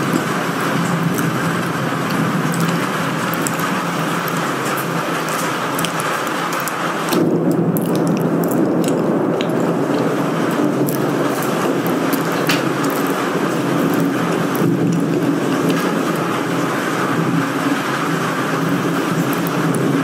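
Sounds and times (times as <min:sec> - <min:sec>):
rain ticking on a window: 0:00.0 - 0:20.0.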